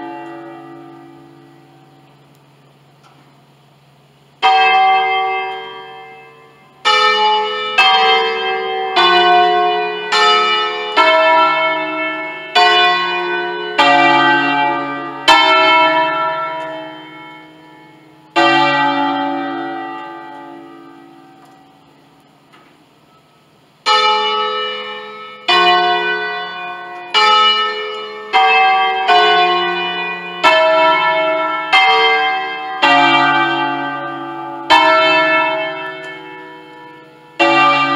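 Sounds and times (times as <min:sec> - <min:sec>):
church bells ringing: 0:00.0 - 0:37.9.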